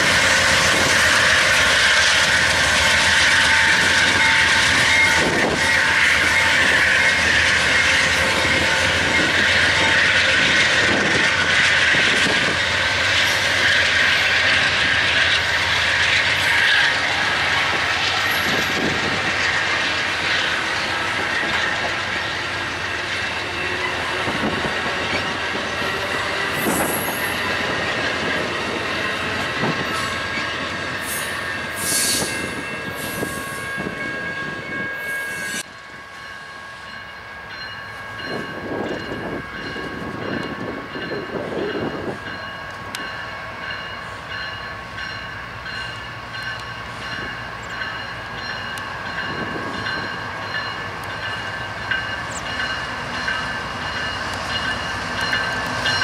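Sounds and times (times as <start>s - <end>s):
diesel locomotive pulling out: 0.0s - 56.0s
train wheels squealing on rails: 0.0s - 56.0s.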